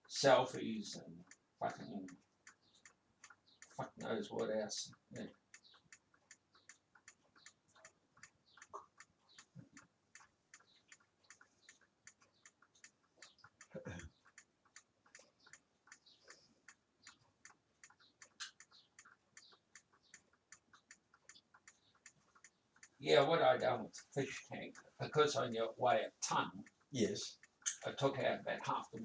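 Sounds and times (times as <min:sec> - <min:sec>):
clock ticking: 0:00.0 - 0:29.0.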